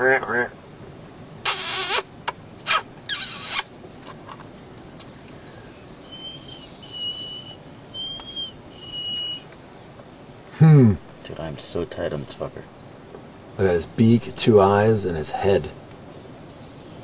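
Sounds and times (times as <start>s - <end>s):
harsh squeaky bird calls: 1.2s - 17.0s.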